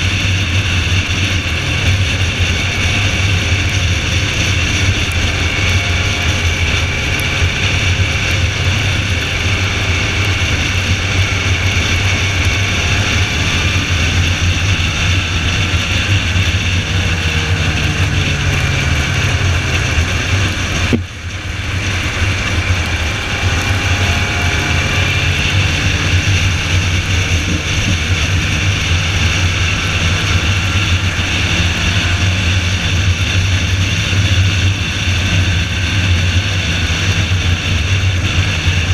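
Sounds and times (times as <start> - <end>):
race car engine droning: 0.0 - 38.9.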